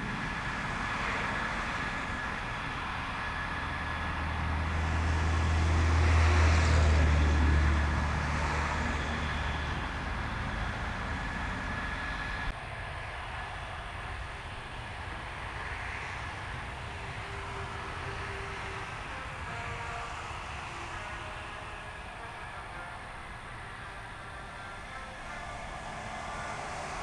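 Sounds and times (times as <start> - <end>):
jet engines rumbling with whine: 0.0 - 27.0.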